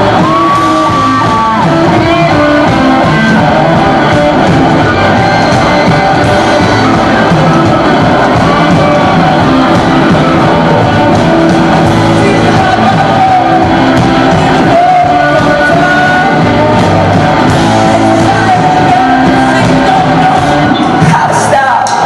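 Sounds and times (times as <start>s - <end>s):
bass guitar: 0.0s - 22.0s
drum kit: 0.0s - 22.0s
person singing: 0.0s - 22.0s.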